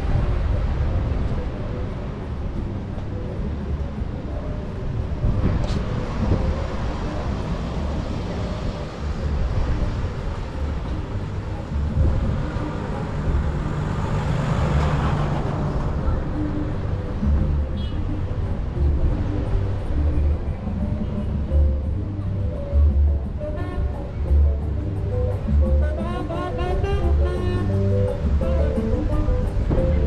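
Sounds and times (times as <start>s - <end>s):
cars driving past: 0.0s - 30.0s
traffic rumble: 0.0s - 30.0s.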